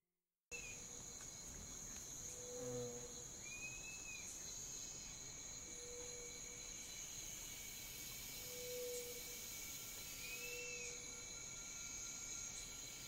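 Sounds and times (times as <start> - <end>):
crickets and insects chirping: 0.5 - 13.0.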